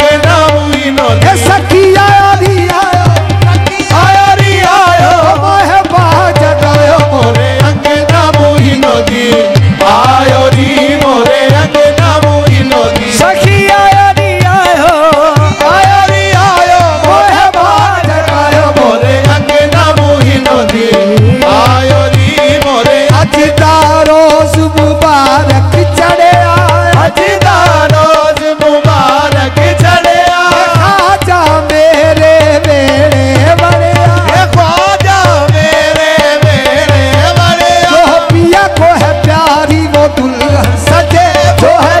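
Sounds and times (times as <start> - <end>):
harmonium melody: 0.0 - 42.0
tabla rhythm: 0.0 - 42.0.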